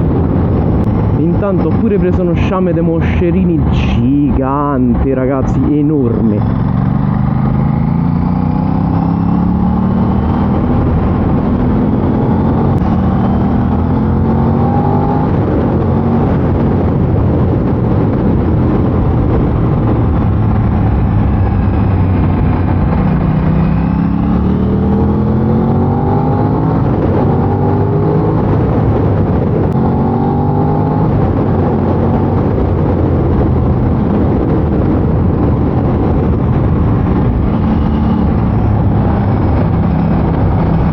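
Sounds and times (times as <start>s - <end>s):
wind and road noise: 0.0s - 40.9s
motorcycle engine accelerating: 5.6s - 40.9s.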